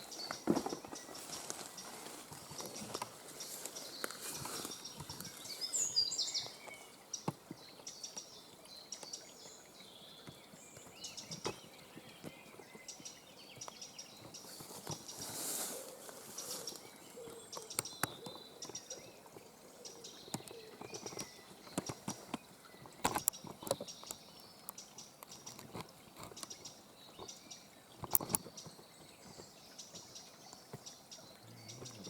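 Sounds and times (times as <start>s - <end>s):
small birds singing: 0.0s - 32.0s.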